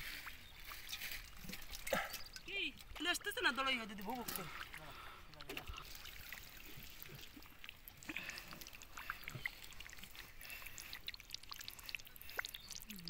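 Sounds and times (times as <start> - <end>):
muddy water sloshing: 0.0 - 13.0
small splashes and clicks: 0.0 - 13.0.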